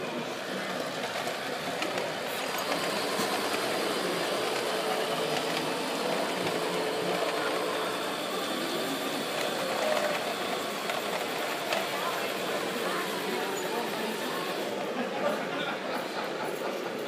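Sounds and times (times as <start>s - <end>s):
model truck motor humming: 0.0s - 15.0s.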